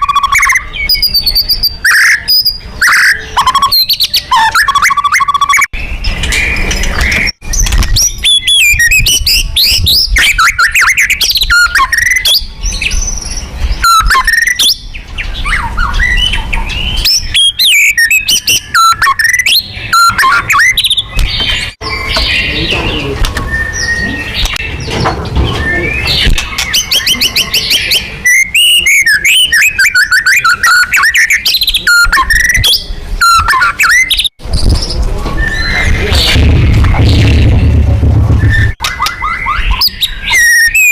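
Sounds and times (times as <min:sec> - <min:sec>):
songbird singing whistles and trills: 0:00.0 - 0:36.3, 0:38.4 - 0:40.9.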